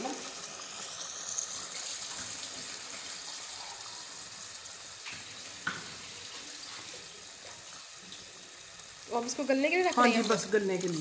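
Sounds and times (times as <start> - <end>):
onions bubbling and sizzling: 0.0 - 11.0.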